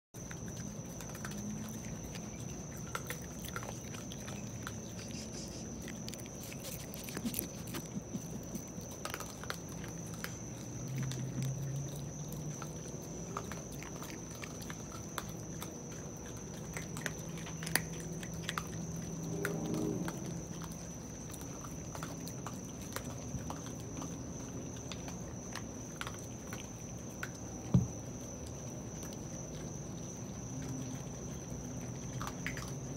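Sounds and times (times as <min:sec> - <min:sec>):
raccoons crunching dry food: 0:00.2 - 0:32.9.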